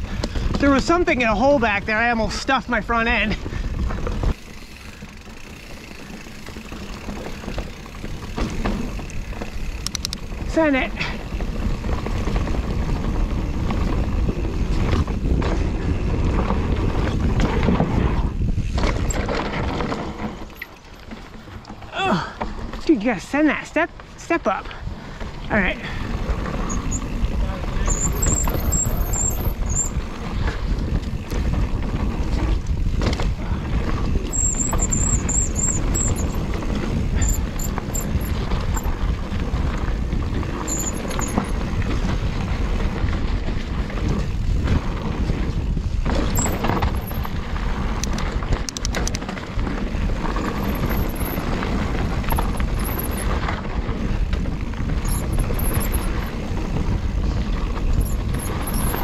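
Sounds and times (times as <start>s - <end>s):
bike clattering over bumps: 0.0s - 59.0s
wind and tyre rumble: 0.0s - 59.0s.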